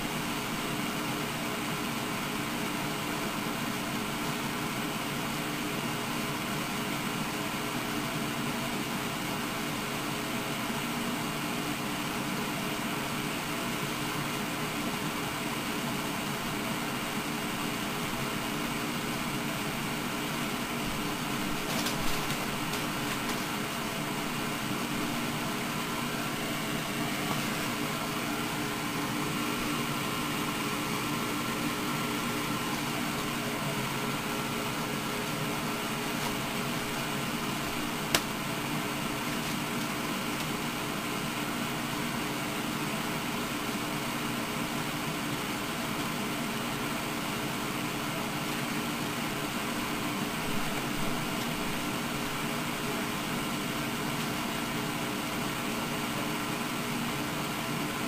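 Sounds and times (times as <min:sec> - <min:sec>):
cassette tape hiss: 0:00.0 - 0:58.0.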